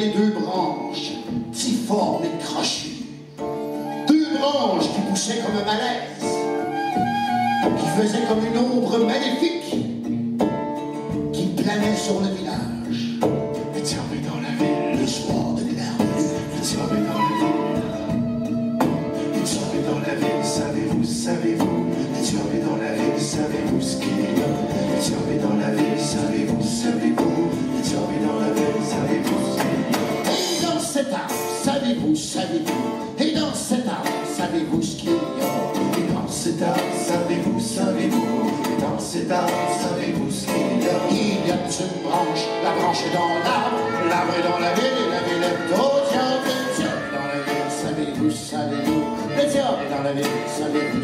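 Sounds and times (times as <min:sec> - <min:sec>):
voices singing: 0:00.0 - 0:02.4, 0:03.7 - 0:09.1, 0:13.8 - 0:33.0, 0:33.9 - 0:51.0
acoustic guitar strummed: 0:00.0 - 0:51.0.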